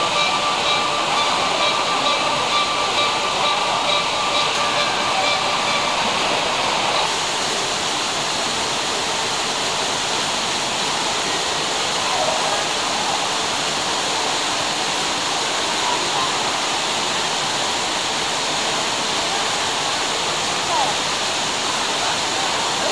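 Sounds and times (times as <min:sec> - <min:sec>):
faint ambience with steady tones: 0:00.0 - 0:22.9
fountain water rushing and splashing: 0:00.0 - 0:22.9.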